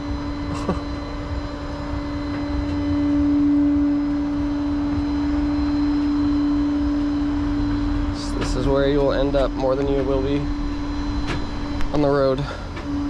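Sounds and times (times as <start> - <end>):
truck engine whine and rumble: 0.0 - 13.0.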